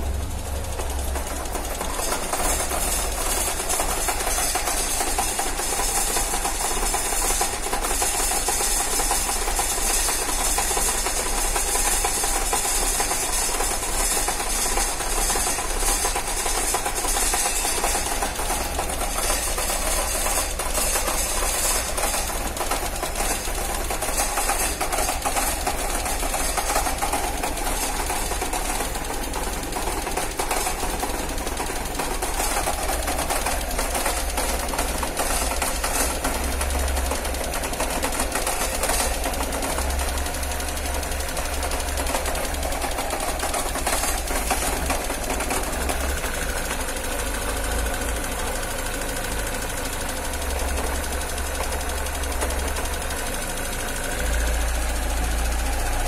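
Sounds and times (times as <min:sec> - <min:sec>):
engine idling with ticking: 0:00.0 - 0:56.0.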